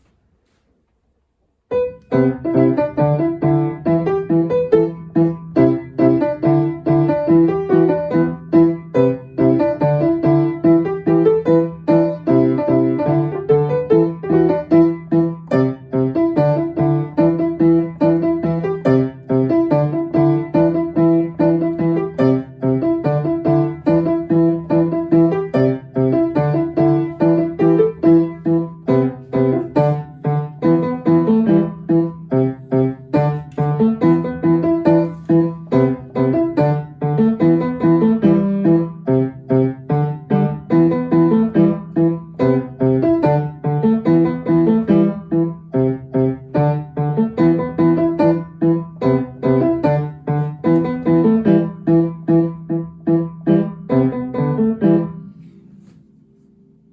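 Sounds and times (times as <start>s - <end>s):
solo piano pop tune: 1.6s - 56.9s.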